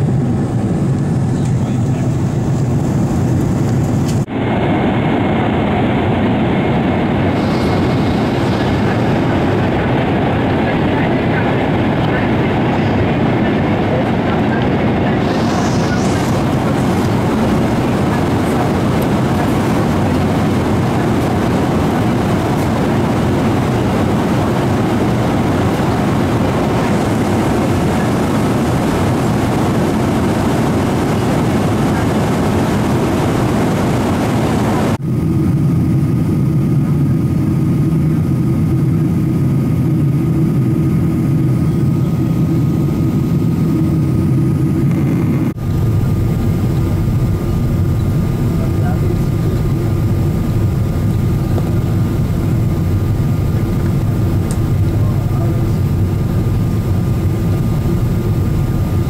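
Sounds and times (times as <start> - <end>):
jet engines roaring: 0.0 - 59.0
low drone with high whine: 0.0 - 59.0.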